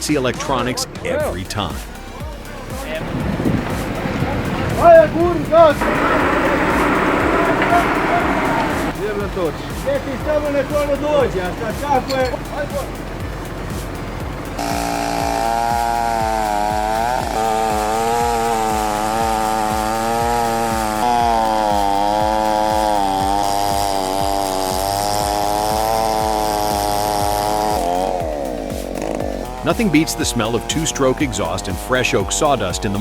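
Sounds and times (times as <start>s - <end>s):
chainsaw cutting log: 1.2s - 33.0s.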